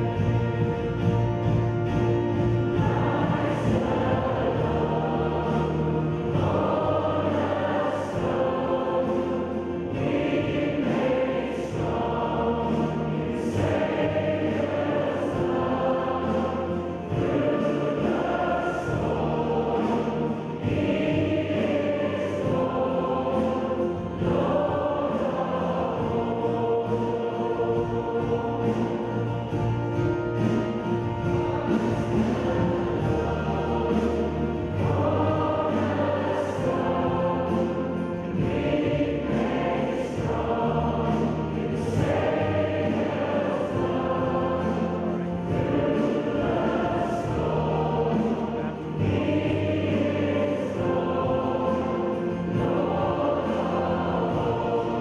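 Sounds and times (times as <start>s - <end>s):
choir of young voices singing: 0.0s - 55.0s
sustained low accompaniment: 0.0s - 55.0s.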